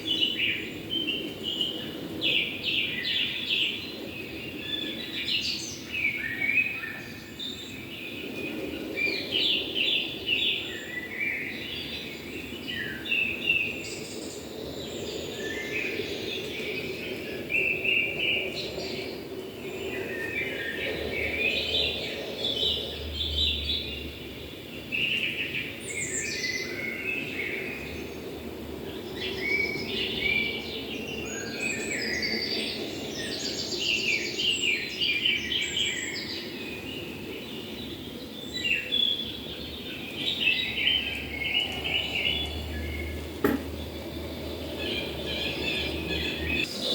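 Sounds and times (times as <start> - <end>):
small birds singing and chirping: 0.0 - 46.9.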